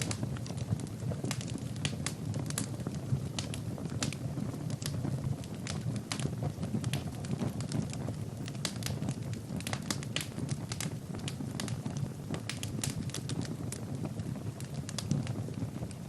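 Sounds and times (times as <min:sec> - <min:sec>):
burning logs crackling and popping: 0:00.0 - 0:16.0
fire flames rumbling: 0:00.0 - 0:16.0.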